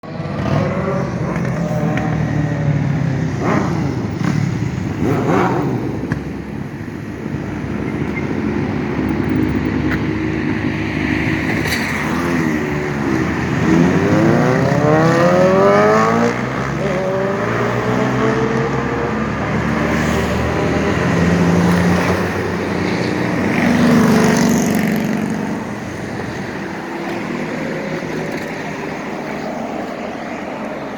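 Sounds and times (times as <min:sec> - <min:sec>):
vehicle engine accelerating: 0:00.0 - 0:06.5, 0:07.4 - 0:30.5
vehicles passing: 0:00.0 - 0:30.9.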